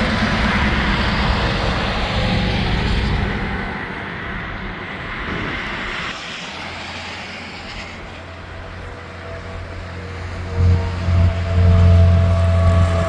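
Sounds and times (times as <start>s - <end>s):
heavy truck passing: 0.0s - 13.0s
vehicle humming: 0.0s - 13.0s.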